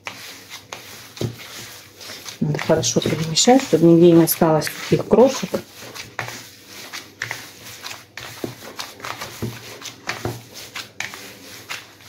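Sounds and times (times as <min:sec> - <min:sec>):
hands kneading moist mixture: 0:00.0 - 0:12.0.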